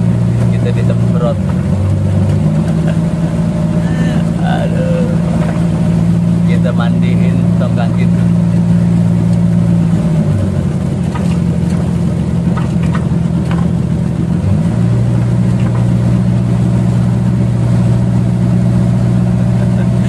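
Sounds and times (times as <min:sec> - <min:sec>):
boat engine humming: 0:00.0 - 0:20.0
water rushing: 0:00.0 - 0:20.0.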